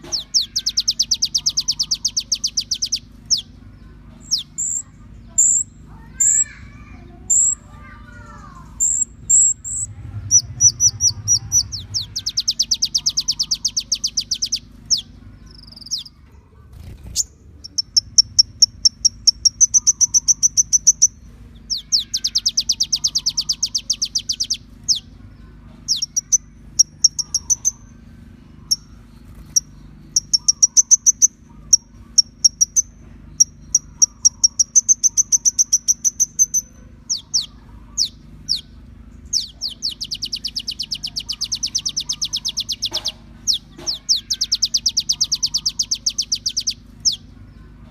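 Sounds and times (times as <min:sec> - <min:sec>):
faint low hum: 0:00.0 - 0:47.9
sunbird chips and trills: 0:00.0 - 0:47.9.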